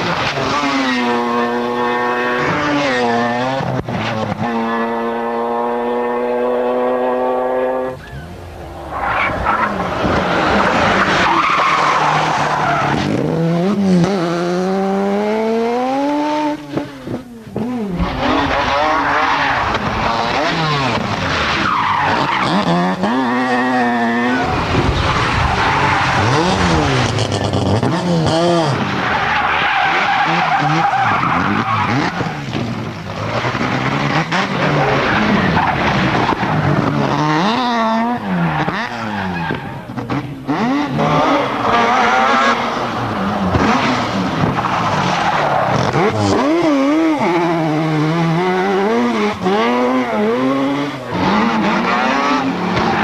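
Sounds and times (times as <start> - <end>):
tyre and road noise: 0.0 - 53.0
rotary engine revving: 8.7 - 53.0.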